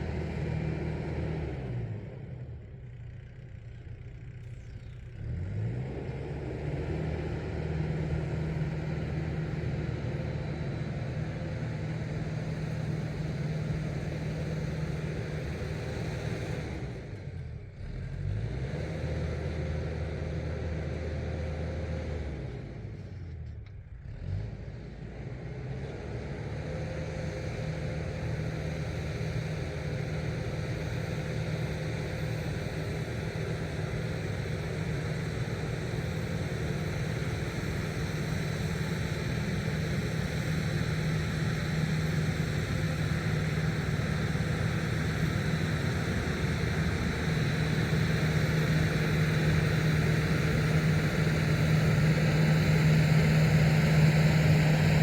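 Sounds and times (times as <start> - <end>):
tractor engine with rotary tiller: 0.0 - 55.0.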